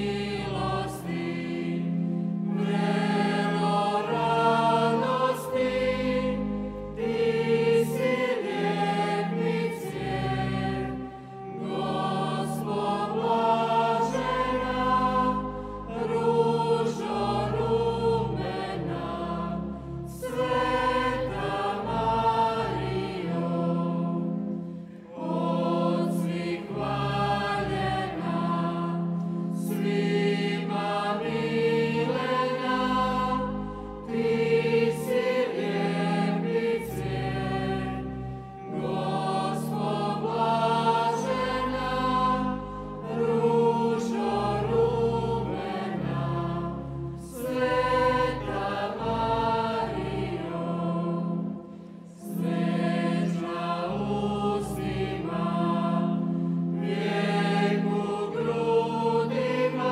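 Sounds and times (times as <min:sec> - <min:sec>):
choir singing a hymn: 0:00.0 - 0:59.9
pipe organ: 0:00.0 - 0:59.9.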